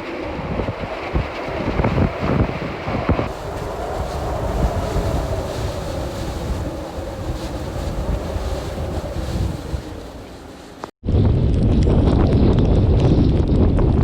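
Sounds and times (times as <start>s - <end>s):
wind gusting against microphone: 0.0s - 14.0s.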